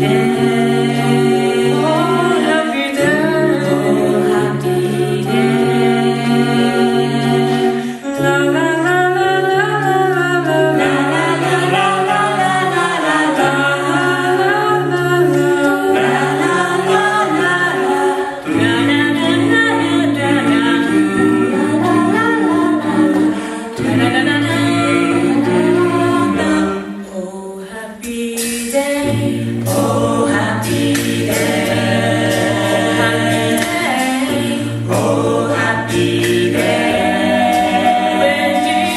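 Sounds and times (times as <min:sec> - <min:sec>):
vocal group singing in harmony: 0:00.0 - 0:38.9.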